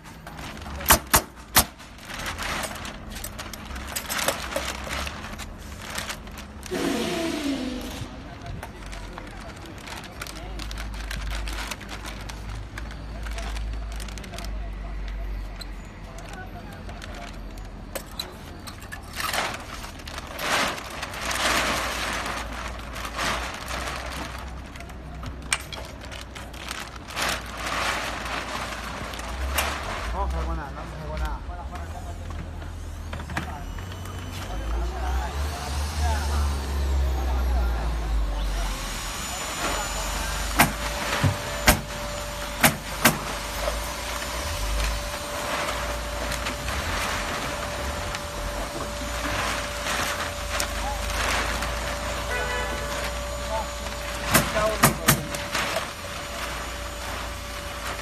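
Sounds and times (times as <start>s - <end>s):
foil bag crinkling: 0.0s - 34.8s, 37.8s - 58.0s.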